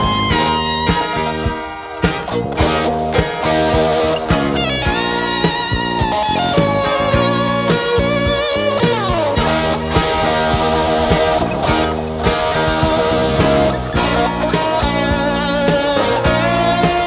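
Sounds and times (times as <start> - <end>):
lead electric guitar: 0.0 - 17.0
rock music: 0.0 - 17.0.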